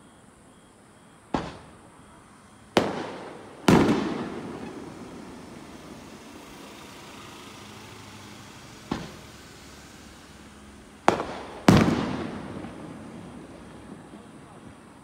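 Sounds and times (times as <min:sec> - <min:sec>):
fireworks bangs echoing: 0:01.3 - 0:15.0.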